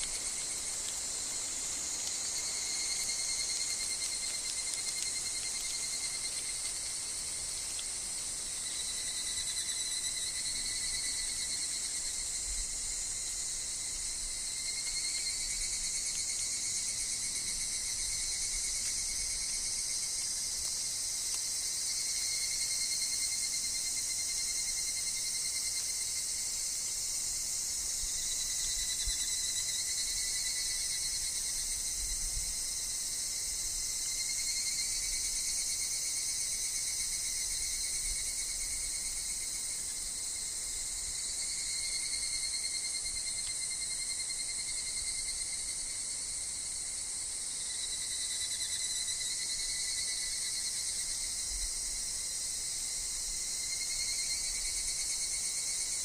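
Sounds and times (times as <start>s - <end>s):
cicadas and insects shrilling: 0.0s - 56.0s.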